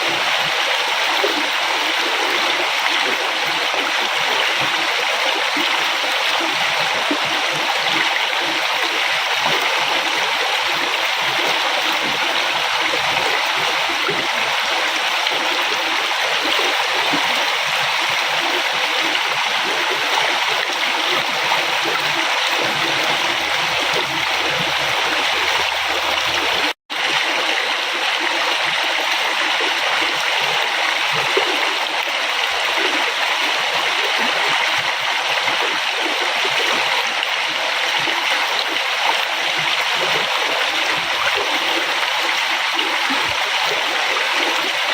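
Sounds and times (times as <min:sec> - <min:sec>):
river water flowing and splashing: 0:00.0 - 0:44.9.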